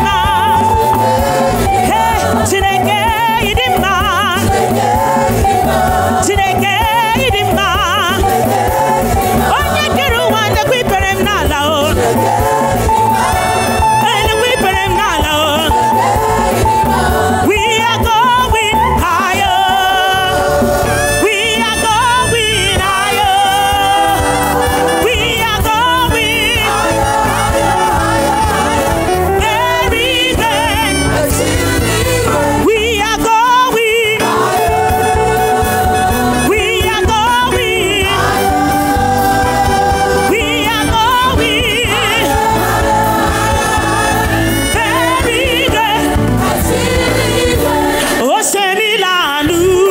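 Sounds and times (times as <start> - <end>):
band accompaniment: 0.0 - 49.9
voices singing with vibrato: 0.0 - 49.9.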